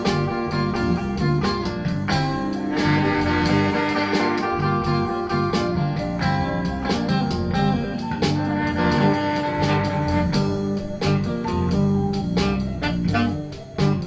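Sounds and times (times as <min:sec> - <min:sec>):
blues band playing: 0:00.0 - 0:14.0
electric guitar: 0:00.0 - 0:14.0.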